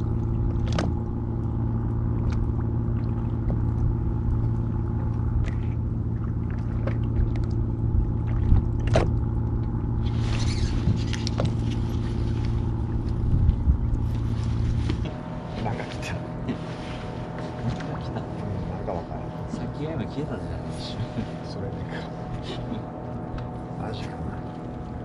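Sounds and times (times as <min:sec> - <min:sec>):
boat engine idling: 0:00.0 - 0:25.0.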